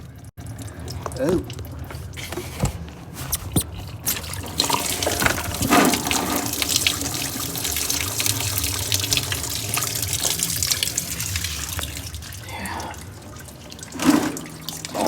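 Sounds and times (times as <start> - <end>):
coolant pouring and splashing: 0.0 - 15.0.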